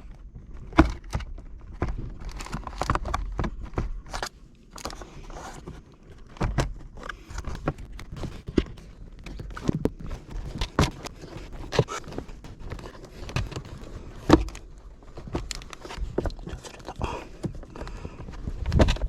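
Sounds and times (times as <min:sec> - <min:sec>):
plastic parts clicking: 0:00.6 - 0:05.6, 0:06.2 - 0:17.9.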